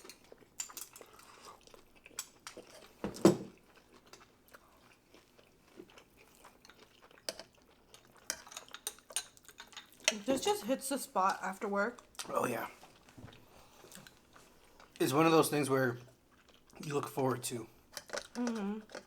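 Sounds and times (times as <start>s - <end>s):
person chewing: 0.0s - 10.2s, 12.0s - 15.2s, 16.0s - 17.2s, 17.8s - 19.0s.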